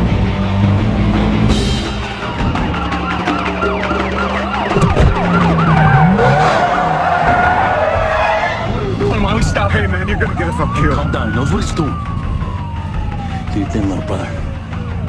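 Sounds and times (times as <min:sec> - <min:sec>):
car engine rumble: 0:00.0 - 0:15.0
police sirens wailing: 0:00.0 - 0:15.0.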